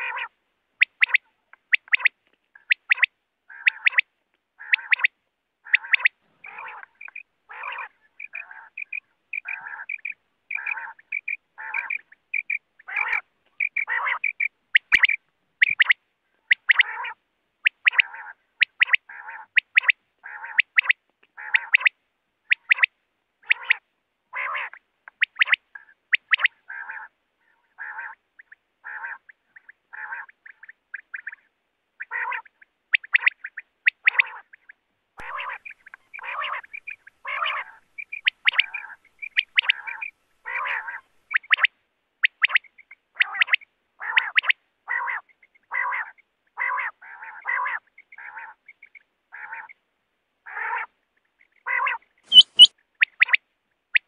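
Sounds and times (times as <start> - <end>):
quail calling: 0.0 - 49.8, 50.4 - 54.0.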